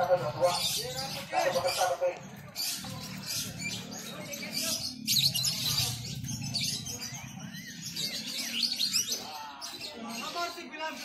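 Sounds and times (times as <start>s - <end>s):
songbirds chirping and warbling: 0.0s - 11.0s.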